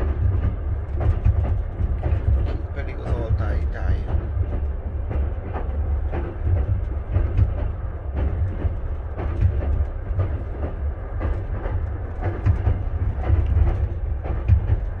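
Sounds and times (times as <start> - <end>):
knocks and rattles: 0.0 - 15.0
train carriage rumbling on track: 0.0 - 15.0.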